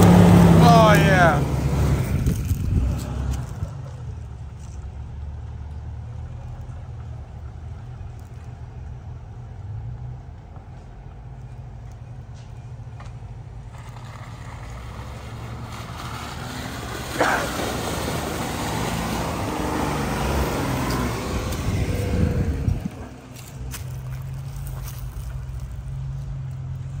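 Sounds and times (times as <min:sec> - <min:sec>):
car engine crawling through mud: 0:00.0 - 0:27.0.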